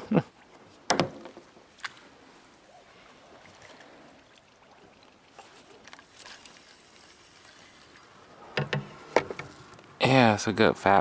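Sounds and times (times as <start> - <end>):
water splashing: 0.0 - 10.2.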